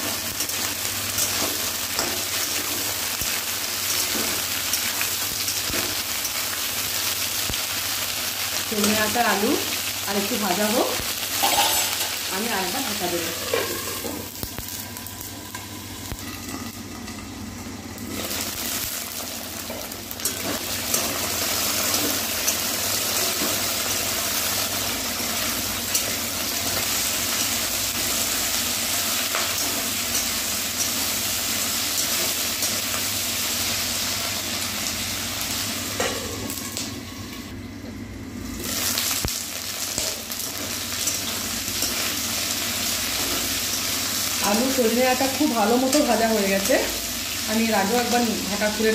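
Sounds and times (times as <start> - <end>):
vegetables sizzling in oil: 0.0 - 48.9.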